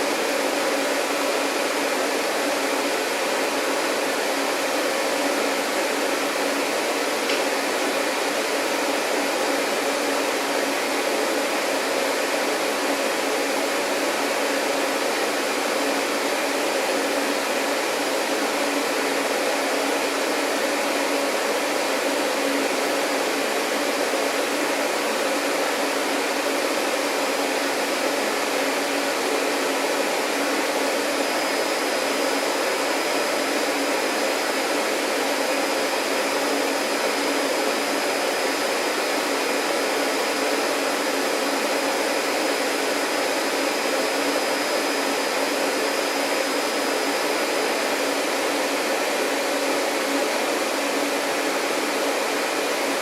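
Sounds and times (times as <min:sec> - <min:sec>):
vacuum cleaner motor running: 0:00.0 - 0:53.0.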